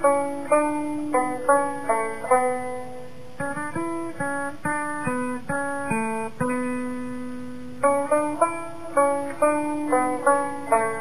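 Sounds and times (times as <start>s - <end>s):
banjo plucked melody: 0.0s - 11.0s.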